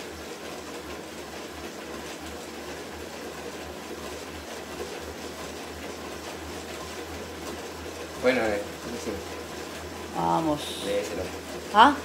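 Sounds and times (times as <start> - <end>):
bicycle trainer whirring: 0.0 - 12.0.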